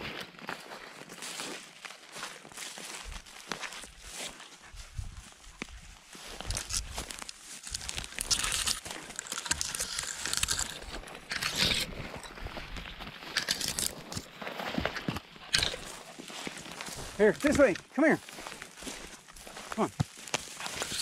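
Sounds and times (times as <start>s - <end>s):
footsteps rustling through vegetation: 0.0s - 21.0s.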